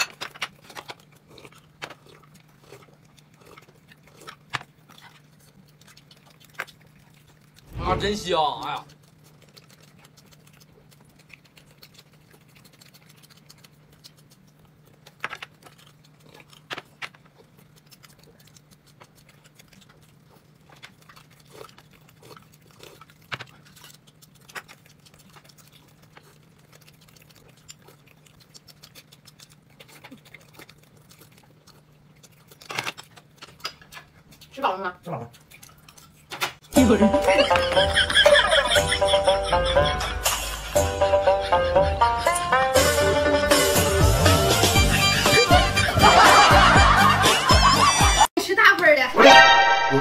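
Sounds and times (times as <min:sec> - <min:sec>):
chewing and mouth sounds: 0:00.0 - 0:49.5.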